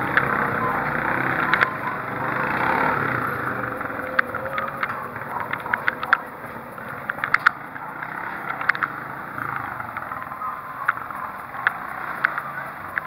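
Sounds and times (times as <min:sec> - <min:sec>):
street noise hum: 0:00.0 - 0:13.0.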